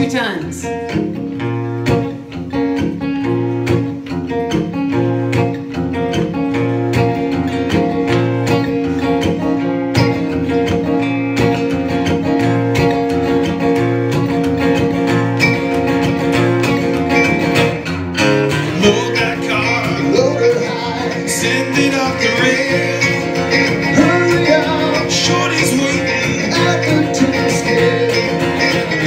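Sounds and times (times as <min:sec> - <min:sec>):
picked mandolin: 0:00.0 - 0:29.0
strummed acoustic guitar: 0:00.0 - 0:29.0.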